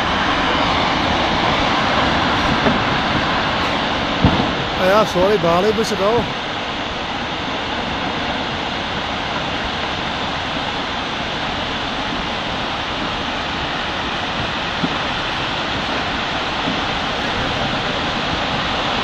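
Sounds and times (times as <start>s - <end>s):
roar of mudslide: 0.0s - 5.4s, 7.7s - 19.0s.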